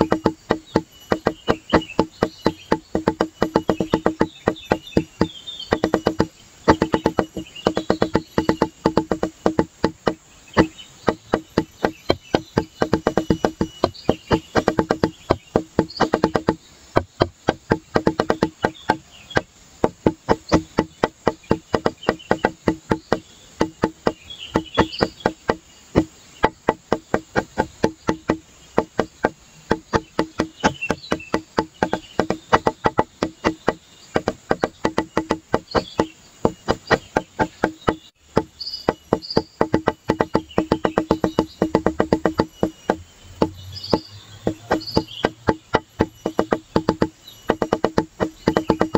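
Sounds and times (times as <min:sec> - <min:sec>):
clicking percussion music: 0:00.0 - 0:48.9.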